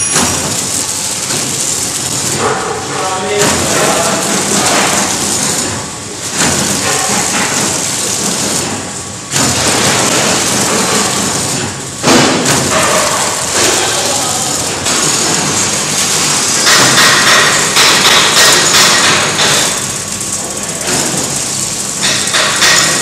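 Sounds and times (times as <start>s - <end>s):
packing machine hissing din: 0.0s - 23.0s.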